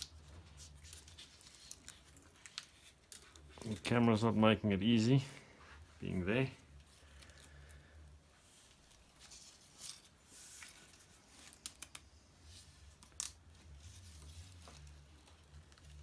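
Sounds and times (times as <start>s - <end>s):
bar tape rustling: 0.0s - 16.0s.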